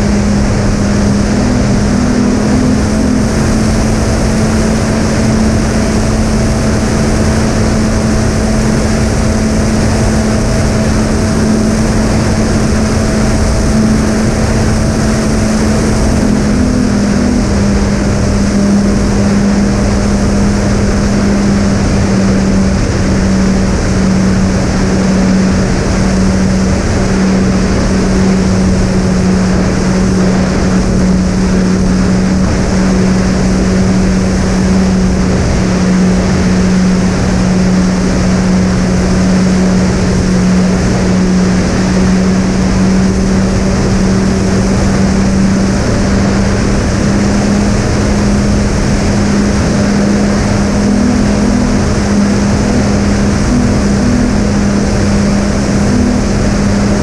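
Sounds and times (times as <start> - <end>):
electric motors droning whine: 0.0 - 57.0
wind rush: 0.0 - 57.0.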